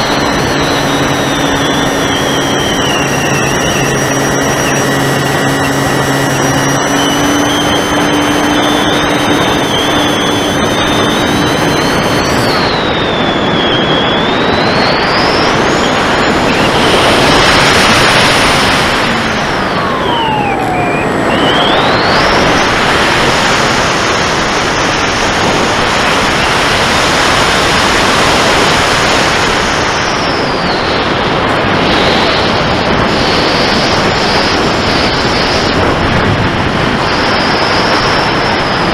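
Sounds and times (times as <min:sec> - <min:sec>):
air rushing over microphone: 0:00.0 - 0:38.9
electric motor and propeller whining: 0:00.0 - 0:38.9.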